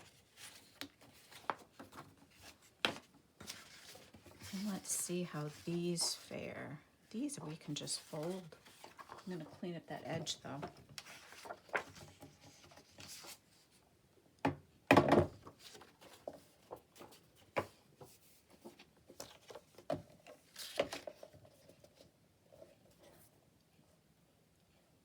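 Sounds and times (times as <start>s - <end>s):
paper rustling and folding: 0.0s - 6.4s, 7.2s - 13.8s, 15.4s - 23.3s.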